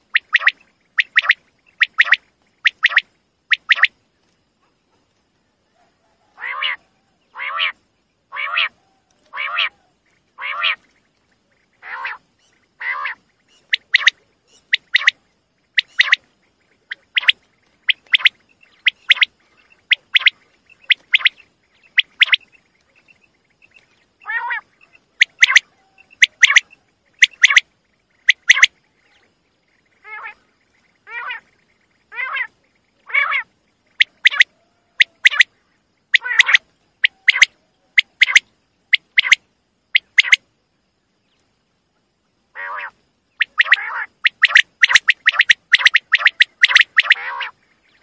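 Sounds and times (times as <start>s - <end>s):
quail calls: 0.0s - 4.0s, 5.7s - 11.0s, 11.6s - 29.2s, 29.8s - 35.5s, 36.1s - 40.4s, 42.5s - 48.0s.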